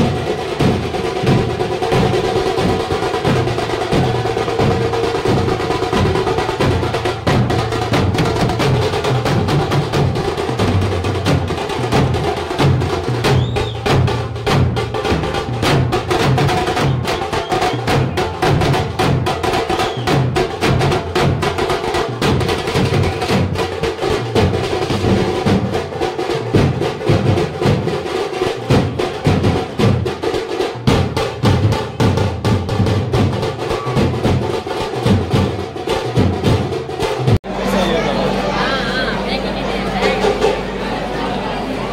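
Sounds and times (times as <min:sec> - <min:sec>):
side drums playing fast rhythm: 0:00.0 - 0:41.9.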